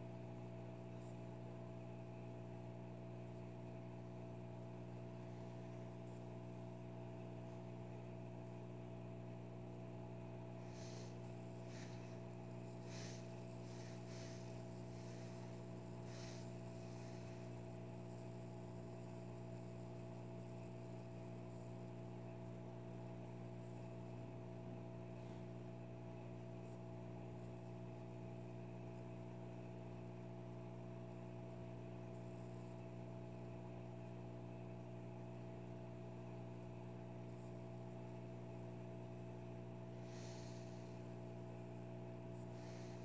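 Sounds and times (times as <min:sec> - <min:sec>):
low electrical hum: 0:00.0 - 0:43.0.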